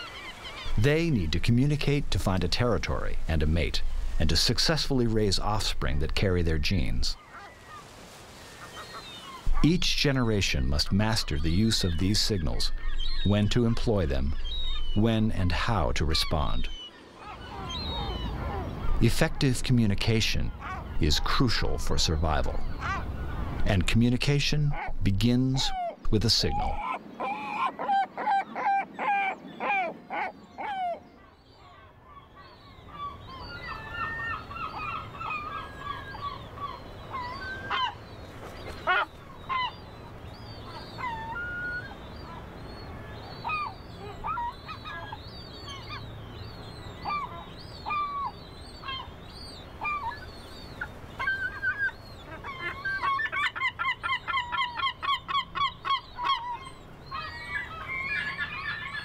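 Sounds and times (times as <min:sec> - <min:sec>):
gulls calling: 0:00.0 - 0:59.0.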